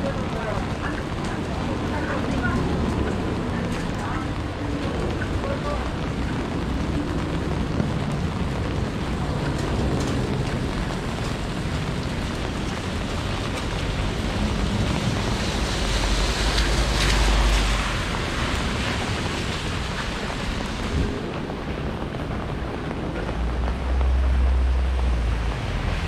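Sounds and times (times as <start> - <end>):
steady rain hiss: 0.0 - 26.0
vehicle passing on wet road: 0.0 - 26.0.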